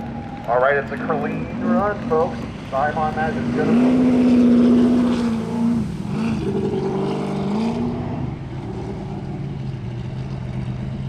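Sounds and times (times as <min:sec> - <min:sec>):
boat engine revving: 0:00.0 - 0:11.0.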